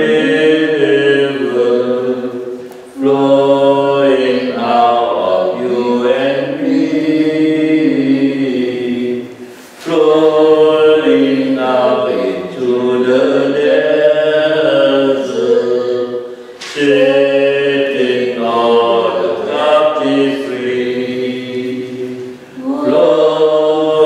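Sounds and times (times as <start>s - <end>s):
voices singing a hymn: 0.0s - 24.0s.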